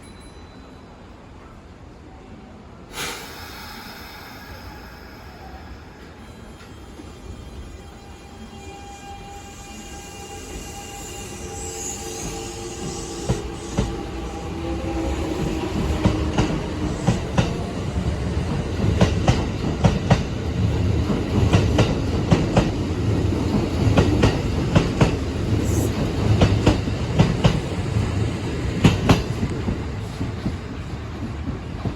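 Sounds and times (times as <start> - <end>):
electric train rumbling past: 2.8 - 31.9.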